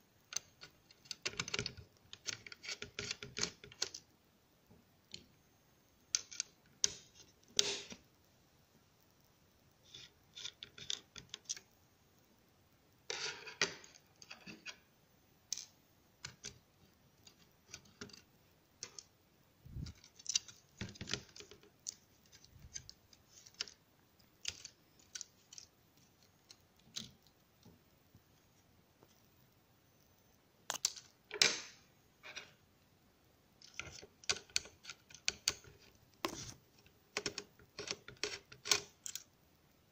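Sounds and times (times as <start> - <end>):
small clicks taps and scrapes: 0.2 - 5.5, 6.1 - 8.1, 9.8 - 11.8, 13.1 - 14.9, 15.5 - 30.1, 30.7 - 32.6, 33.6 - 39.4.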